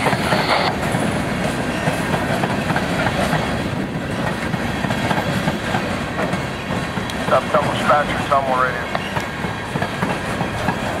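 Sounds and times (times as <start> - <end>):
rail cars rumbling: 0.0 - 11.0.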